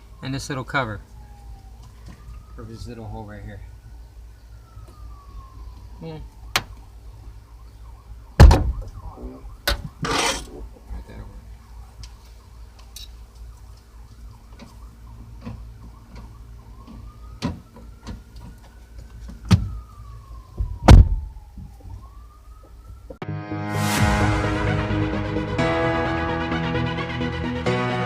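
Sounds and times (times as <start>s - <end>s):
distant siren: 0.0s - 28.0s.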